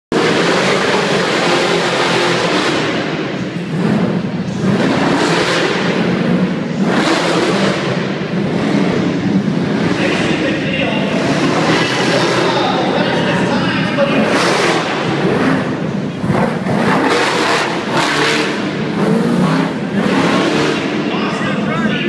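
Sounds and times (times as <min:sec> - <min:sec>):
truck engine revving hard: 0:00.1 - 0:22.0.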